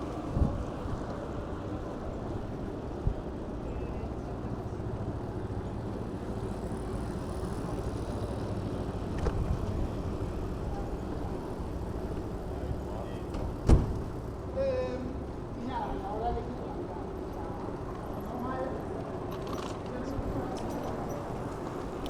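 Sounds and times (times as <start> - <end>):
passing vehicles: 0.0 - 22.0
wind: 0.0 - 22.0.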